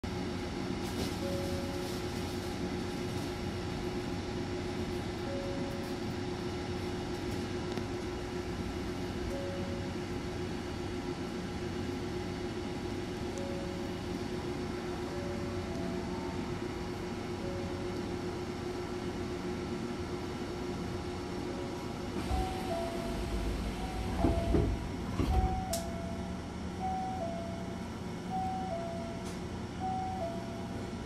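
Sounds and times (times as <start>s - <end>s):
train equipment humming: 0.0s - 31.0s.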